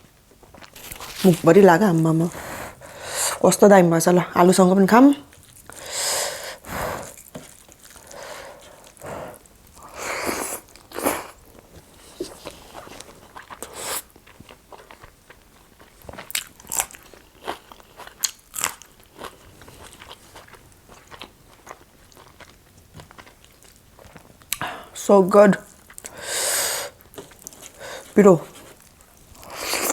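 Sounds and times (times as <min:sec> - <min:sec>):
person chewing food: 0:00.4 - 0:01.4, 0:05.2 - 0:25.0, 0:25.6 - 0:26.2, 0:26.8 - 0:29.9.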